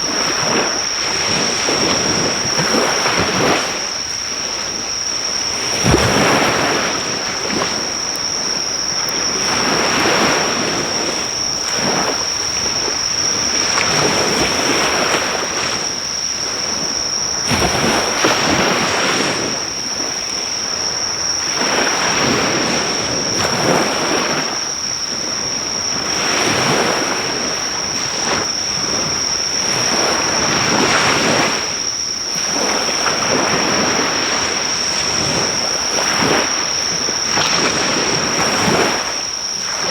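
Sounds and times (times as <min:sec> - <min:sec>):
high-pitched insect trill: 0:00.0 - 0:39.9
sea waves breaking on shore: 0:00.0 - 0:39.9.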